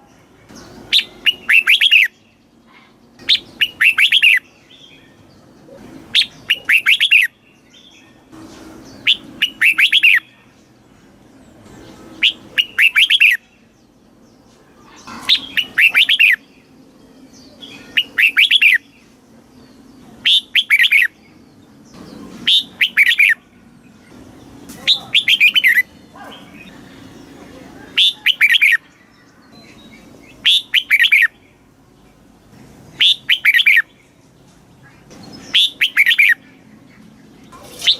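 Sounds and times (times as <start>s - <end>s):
bird singing bright notes: 0.0s - 32.3s, 32.9s - 37.9s.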